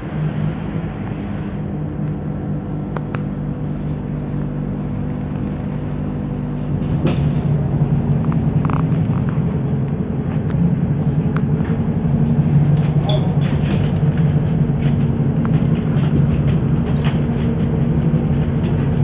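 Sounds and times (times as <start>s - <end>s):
trolleybus hum: 0.0s - 19.0s.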